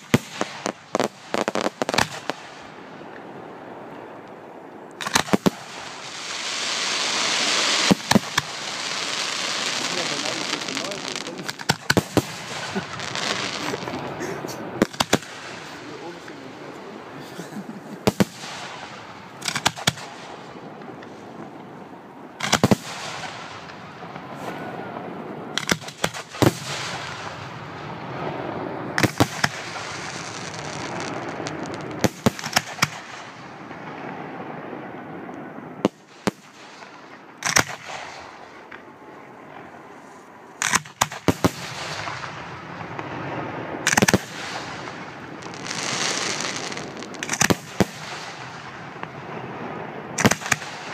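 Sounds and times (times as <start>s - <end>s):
fireworks bangs: 0.0s - 4.3s, 5.0s - 50.9s.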